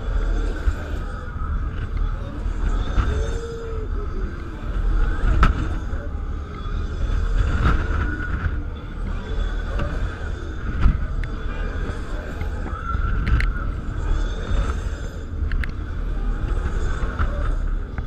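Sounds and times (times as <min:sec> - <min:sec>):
ride rumbling: 0:00.0 - 0:18.0
wind buffeting microphone: 0:00.0 - 0:18.0.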